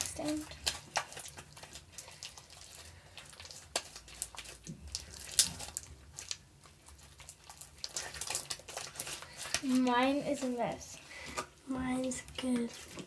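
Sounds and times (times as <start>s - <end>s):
slime squelching: 0.0s - 13.0s.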